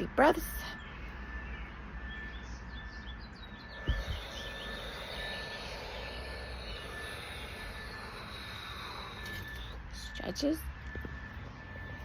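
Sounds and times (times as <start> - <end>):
small birds chirping: 0.6 - 10.3.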